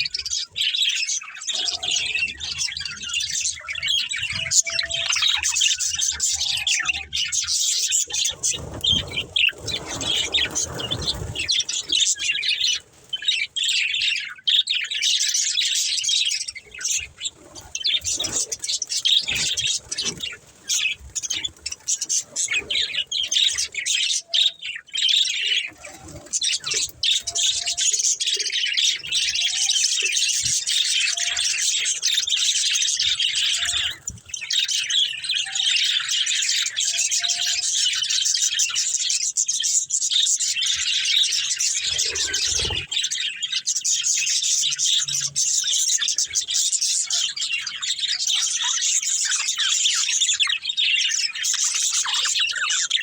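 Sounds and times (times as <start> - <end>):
budgerigars chirping and chattering: 0.0 - 53.0.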